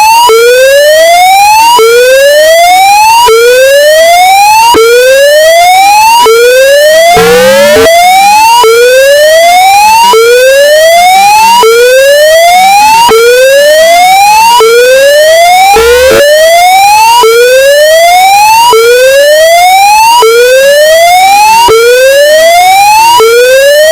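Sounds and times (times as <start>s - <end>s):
distorted electronic siren whoop: 0.0s - 23.9s.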